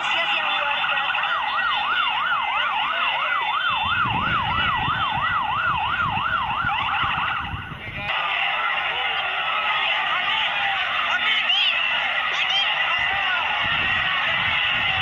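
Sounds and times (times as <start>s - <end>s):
crowd din: 0.0s - 15.0s
electronic siren yelping: 0.0s - 15.0s.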